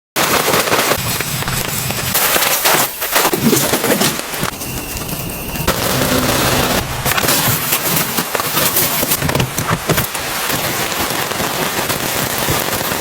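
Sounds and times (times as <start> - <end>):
wood fire crackling: 0.2 - 13.0.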